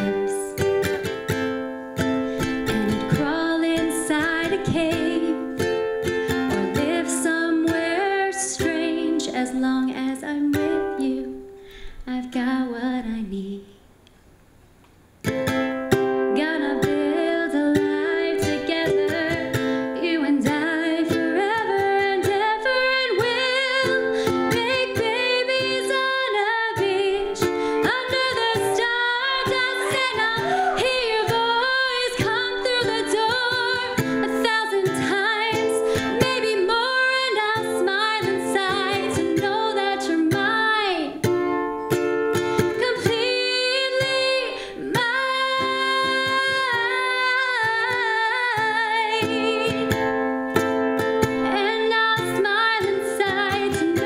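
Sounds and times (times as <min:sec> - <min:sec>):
woman singing: 0:00.0 - 0:01.1, 0:02.6 - 0:13.8, 0:16.2 - 0:41.6, 0:42.5 - 0:50.3, 0:51.2 - 0:54.0
ukulele strumming chords: 0:00.0 - 0:11.8, 0:15.2 - 0:54.0.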